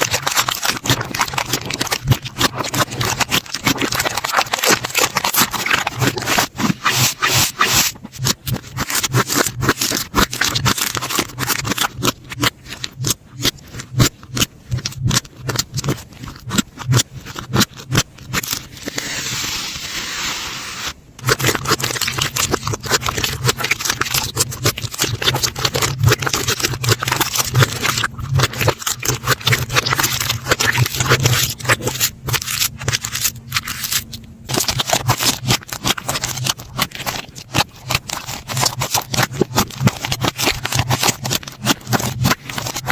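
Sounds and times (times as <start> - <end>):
slime crackling and clicking: 0.0 - 18.7, 21.2 - 42.9.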